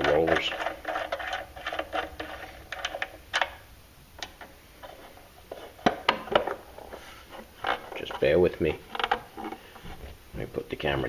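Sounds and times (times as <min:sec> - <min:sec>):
hand working plastic sander cover: 0:00.0 - 0:03.6, 0:04.3 - 0:10.2.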